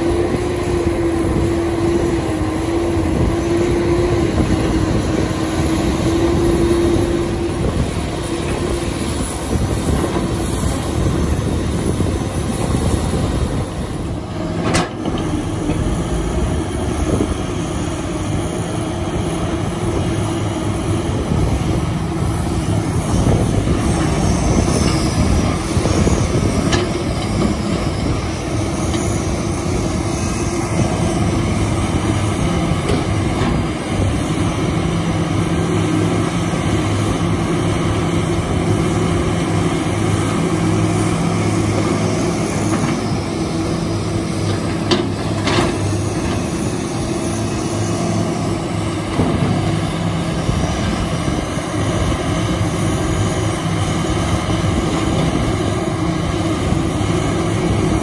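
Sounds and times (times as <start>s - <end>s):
excavator diesel engines: 0.0s - 58.0s.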